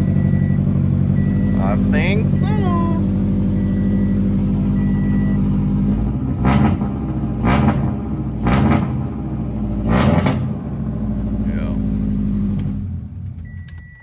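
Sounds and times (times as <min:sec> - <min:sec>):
engine revving: 0:00.0 - 0:13.6
car engine idling: 0:00.0 - 0:14.0.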